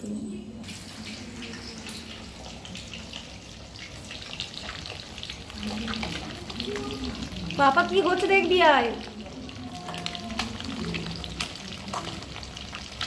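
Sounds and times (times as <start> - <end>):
food sizzling in hot oil: 0.5 - 13.0.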